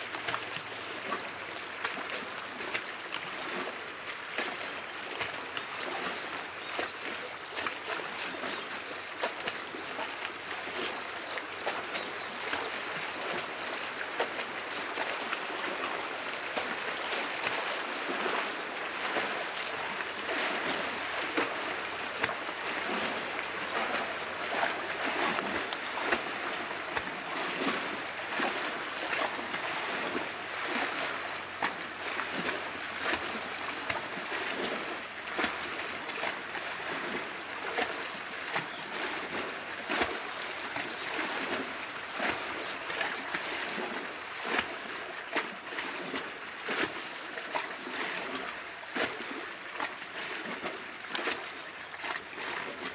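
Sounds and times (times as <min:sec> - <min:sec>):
small waves lapping at shore: 0:00.0 - 0:52.9.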